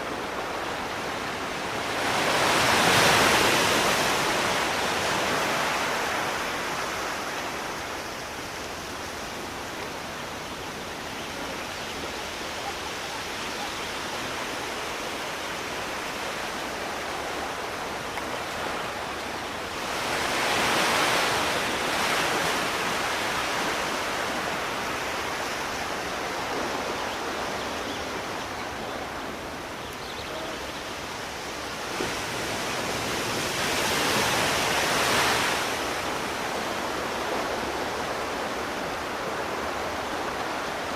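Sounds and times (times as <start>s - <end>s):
sea waves washing ashore: 0.0s - 40.9s
waves surging and breaking: 0.0s - 40.9s.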